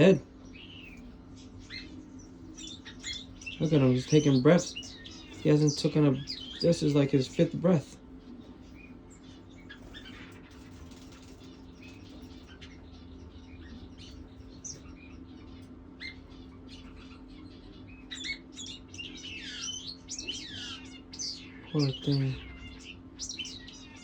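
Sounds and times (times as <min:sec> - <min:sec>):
pigeons peeping: 0:00.0 - 0:24.0
steady low hum: 0:00.0 - 0:24.0.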